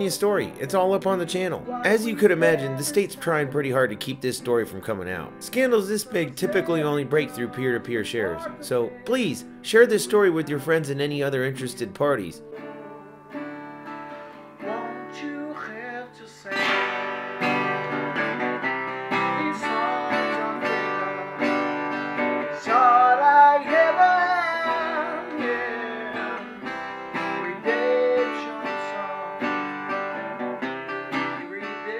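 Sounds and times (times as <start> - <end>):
strummed acoustic guitar music: 0.0 - 31.9.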